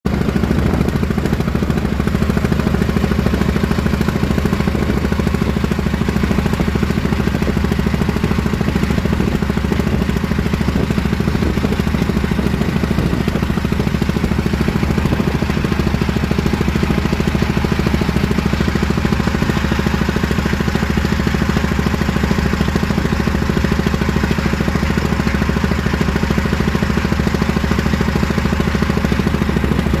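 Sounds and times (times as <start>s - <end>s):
small engine running: 0.1s - 30.0s.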